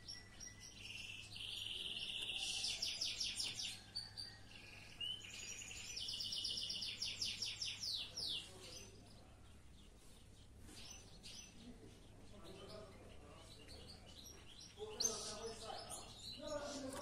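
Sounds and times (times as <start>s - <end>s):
canary chirps: 0.0s - 17.0s
canary singing trills: 0.0s - 17.0s.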